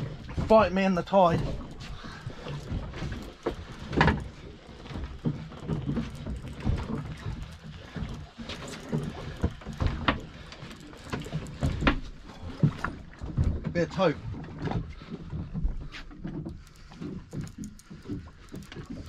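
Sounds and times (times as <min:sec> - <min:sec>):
wind and water rumble: 0:00.0 - 0:19.0
fishing rod and reel knocks: 0:00.5 - 0:13.8, 0:16.0 - 0:19.0.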